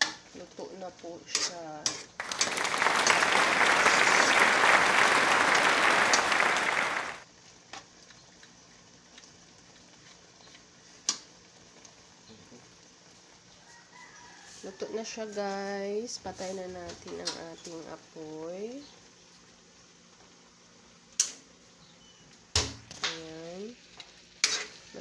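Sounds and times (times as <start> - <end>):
jam sizzling and bubbling: 0.0 - 25.0.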